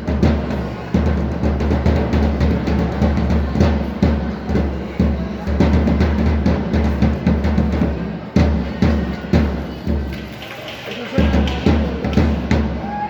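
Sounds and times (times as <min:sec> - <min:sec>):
bass and snare drums beating: 0:00.0 - 0:10.4, 0:11.2 - 0:13.0.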